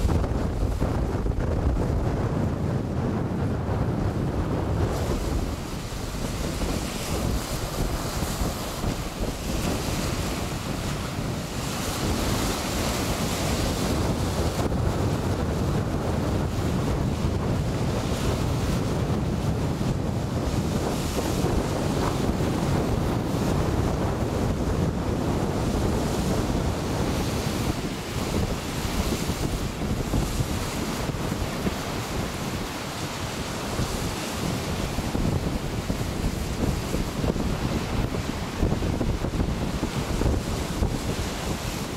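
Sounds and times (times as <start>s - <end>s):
waves rushing at sea: 0.0s - 41.9s
wind buffeting microphone: 0.0s - 41.9s.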